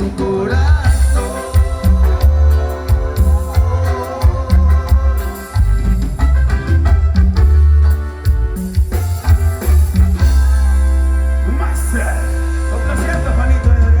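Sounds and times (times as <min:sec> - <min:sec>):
music with steady bass: 0:00.0 - 0:14.0.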